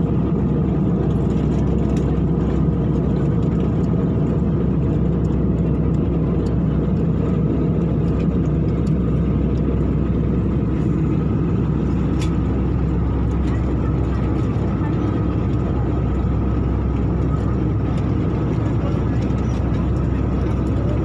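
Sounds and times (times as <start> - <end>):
jet cabin engine roar: 0.0 - 21.0.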